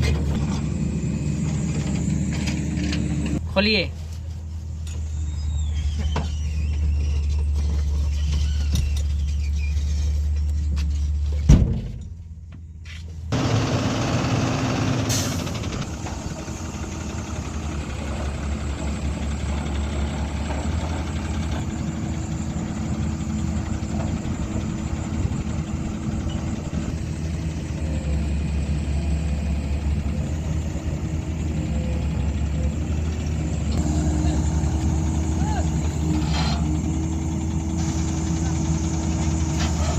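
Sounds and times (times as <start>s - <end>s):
heavy diesel engine running: 0.0s - 11.5s, 12.1s - 39.9s.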